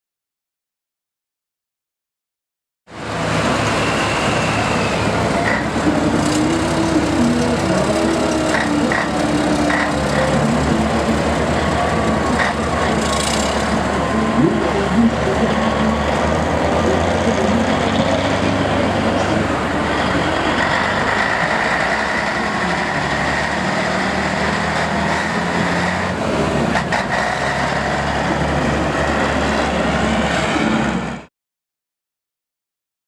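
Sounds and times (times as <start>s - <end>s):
heavy truck engines running: 2.9s - 31.3s.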